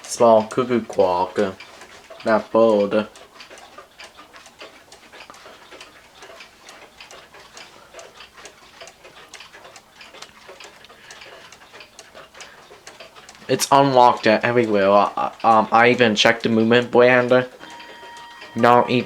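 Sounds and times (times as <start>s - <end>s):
cuckoo clock ticking: 0.0s - 19.0s.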